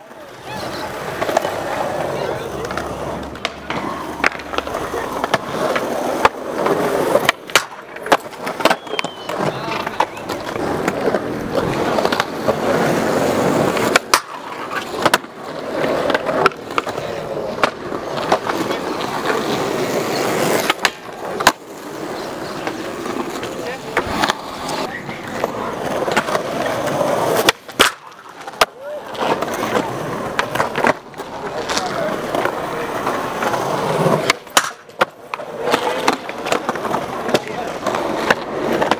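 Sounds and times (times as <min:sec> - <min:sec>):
skateboard wheels rolling on concrete: 0:00.0 - 0:38.9
skateboards clacking on ground: 0:00.0 - 0:38.9.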